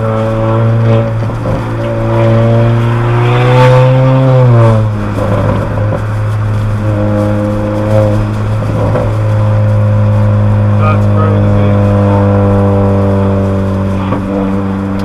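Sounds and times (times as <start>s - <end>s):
car engine revving from cabin: 0.0s - 15.0s.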